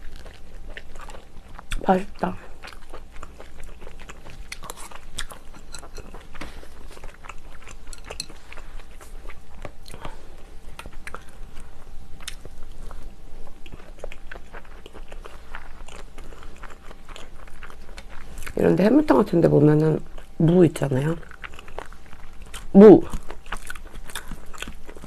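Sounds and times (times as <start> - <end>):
person chewing food: 0.0 - 18.6, 20.0 - 25.0.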